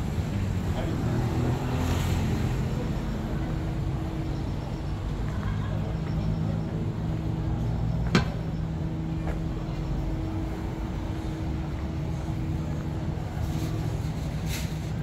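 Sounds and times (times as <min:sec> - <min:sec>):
traffic engine hum: 0:00.0 - 0:15.0.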